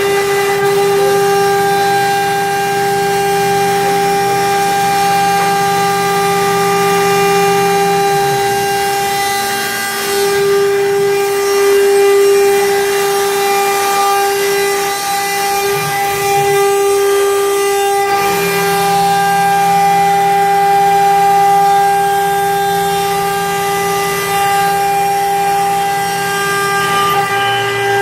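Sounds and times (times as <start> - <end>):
router spindle whine: 0.0 - 28.0.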